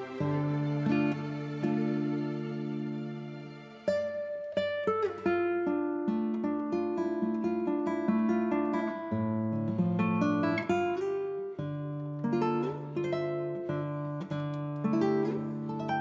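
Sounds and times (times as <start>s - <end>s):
acoustic guitar with bass: 0.0s - 16.0s.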